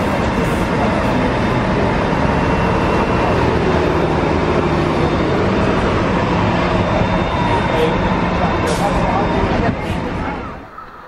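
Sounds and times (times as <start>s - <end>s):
bus engine running: 0.0s - 10.7s
road traffic: 0.0s - 11.0s.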